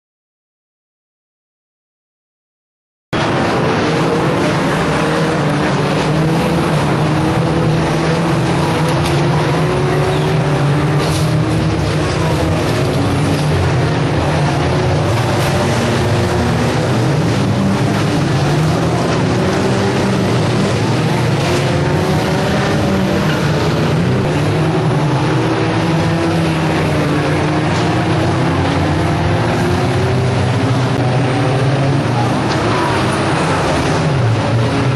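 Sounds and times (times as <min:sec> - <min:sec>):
racing car engines revving: 0:03.2 - 0:34.9.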